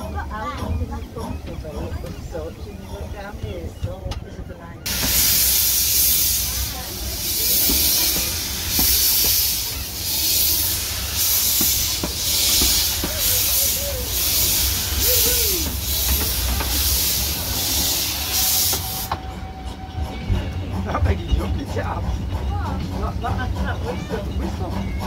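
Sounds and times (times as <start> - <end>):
steam locomotive hissing steam: 4.8 - 25.0.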